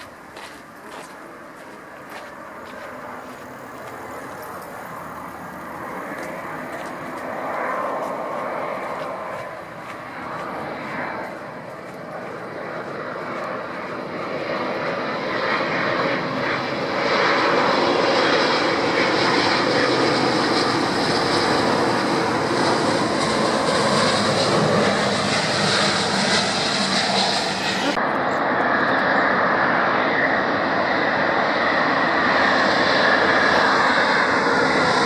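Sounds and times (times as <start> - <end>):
airliner engines: 0.0 - 35.0.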